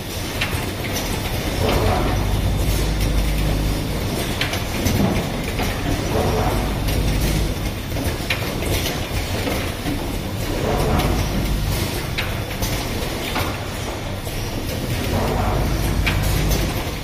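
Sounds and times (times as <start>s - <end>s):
machine humming: 0.0s - 17.0s
mechanical clicks and clatter: 0.0s - 17.0s.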